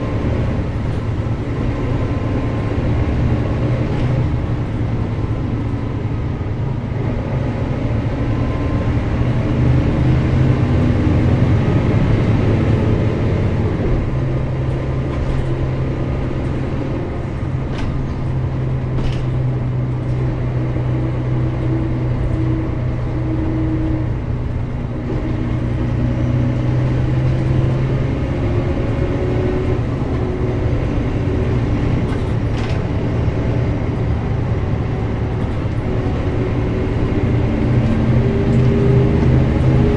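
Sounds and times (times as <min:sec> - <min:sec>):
bus engine humming: 0:00.0 - 0:39.9.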